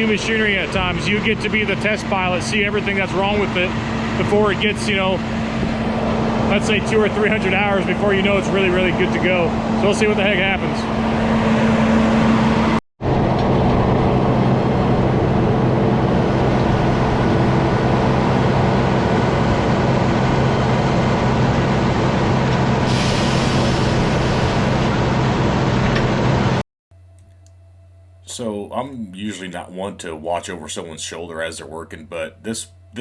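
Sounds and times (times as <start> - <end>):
engine running: 0.0 - 26.6.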